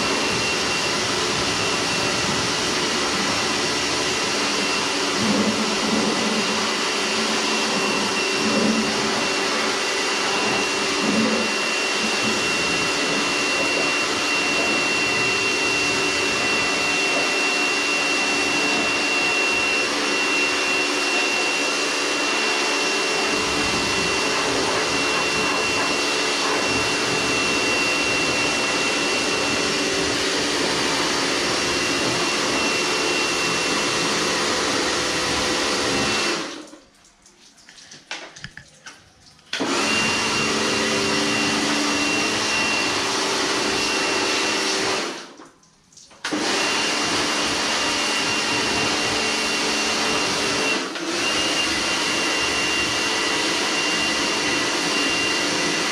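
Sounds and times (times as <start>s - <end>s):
pressure washer pump whine: 0.0s - 37.0s, 37.7s - 45.5s, 46.2s - 55.9s
water jet hissing: 0.0s - 45.4s.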